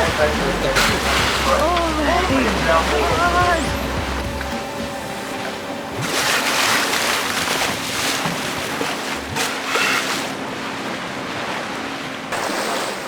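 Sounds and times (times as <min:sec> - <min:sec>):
water noise: 0:00.0 - 0:13.0.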